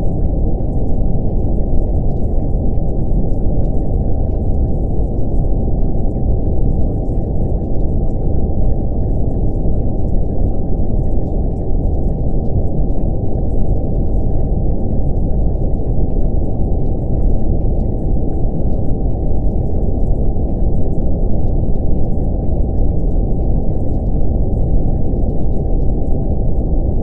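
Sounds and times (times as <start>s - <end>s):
constant tone: 0.0s - 27.0s.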